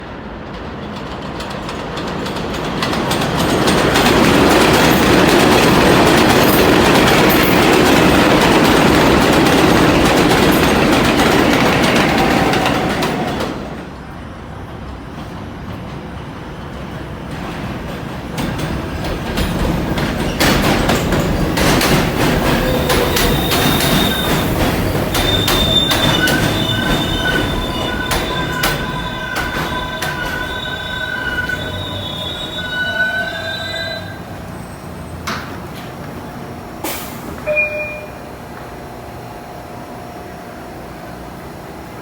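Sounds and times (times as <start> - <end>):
subway train rumbling on rails: 0.0 - 42.0.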